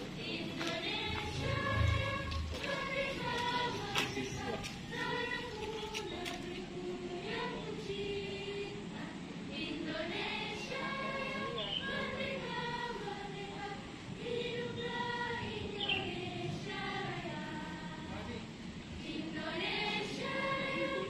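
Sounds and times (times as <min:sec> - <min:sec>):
choir of young voices singing: 0:00.0 - 0:21.0.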